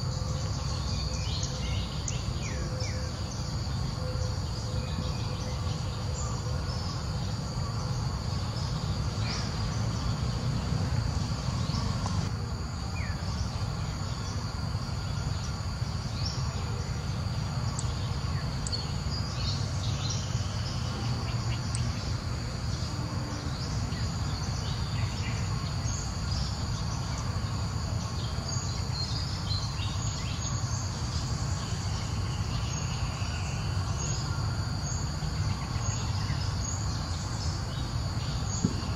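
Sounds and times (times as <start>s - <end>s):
high drone of insects: 0.0s - 38.9s
low steady rumble: 0.0s - 38.9s.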